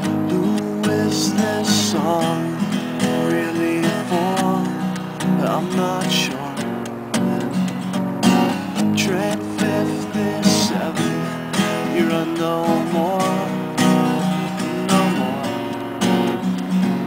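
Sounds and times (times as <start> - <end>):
man singing: 0.0 - 7.7, 8.7 - 16.2
acoustic guitar strumming: 0.0 - 17.0.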